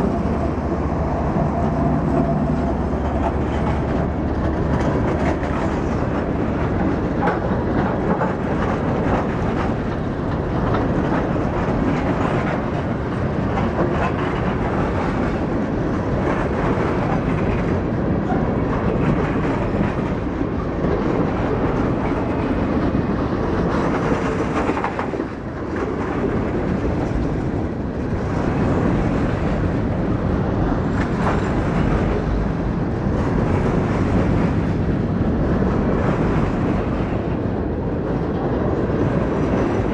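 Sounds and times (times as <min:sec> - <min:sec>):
train wheels rumbling over rails: 0:00.0 - 0:39.9.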